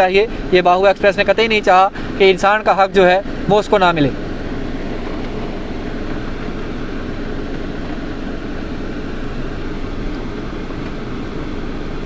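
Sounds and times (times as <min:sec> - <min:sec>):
car cabin noise: 0:00.0 - 0:12.0.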